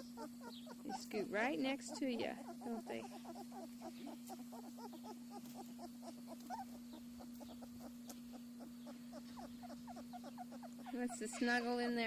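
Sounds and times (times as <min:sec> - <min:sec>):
puppies whimpering and squeaking: 0:00.0 - 0:12.0
steady low hum: 0:00.0 - 0:12.0.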